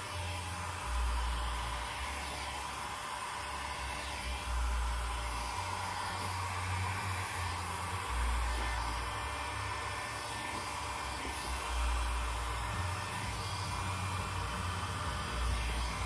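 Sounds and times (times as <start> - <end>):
heat gun blowing air: 0.0 - 16.0.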